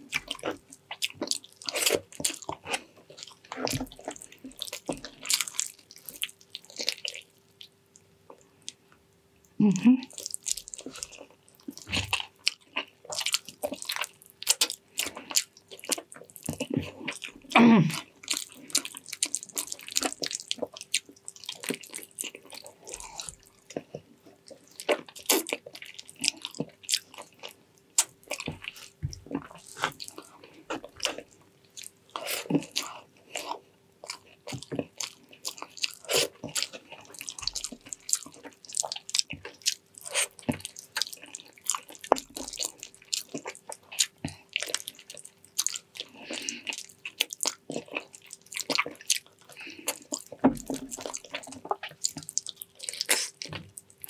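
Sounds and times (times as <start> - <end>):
wet chewing and smacking: 0.0 - 9.0, 10.0 - 54.0
faint steady hum: 0.0 - 54.0.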